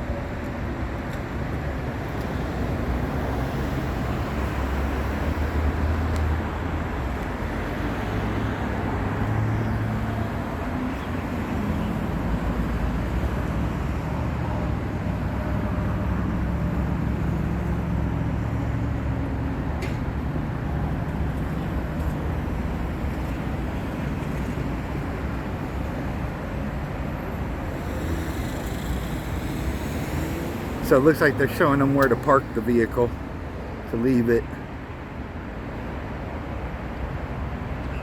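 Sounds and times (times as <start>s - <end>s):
vehicles passing on highway: 0.0s - 38.0s.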